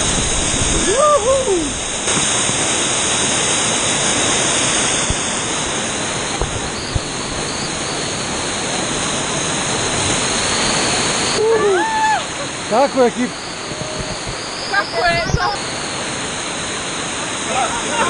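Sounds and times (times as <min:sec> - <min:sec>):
river rushing over waterfalls: 0:00.0 - 0:14.3, 0:15.5 - 0:18.0.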